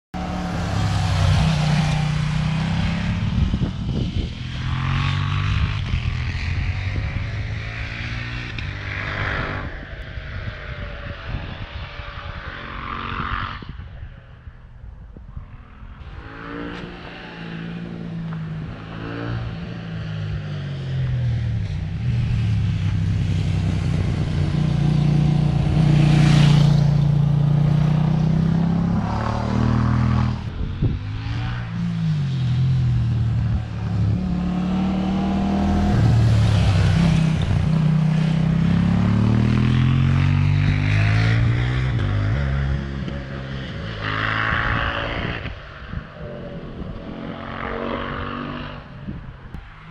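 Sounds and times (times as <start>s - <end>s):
vehicle engines passing: 0.2s - 49.9s.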